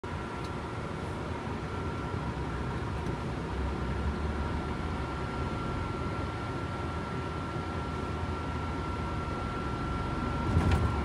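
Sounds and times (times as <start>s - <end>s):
thin steady whine: 0.1s - 11.0s
truck engine rumble: 0.1s - 11.0s.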